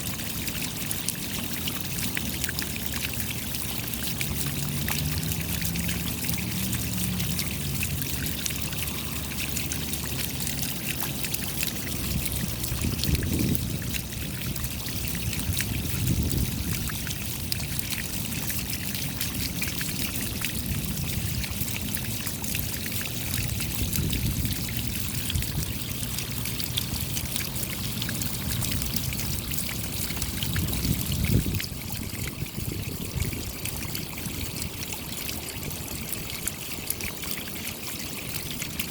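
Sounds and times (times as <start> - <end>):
low water surges: 0.0 - 38.9
rain patter: 0.0 - 38.9
water trickling and running: 0.0 - 38.9.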